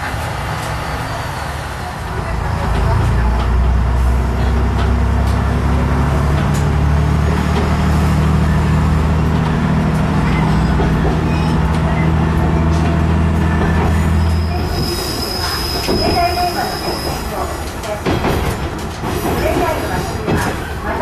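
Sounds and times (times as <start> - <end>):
diesel railcar engine droning: 0.0 - 21.0.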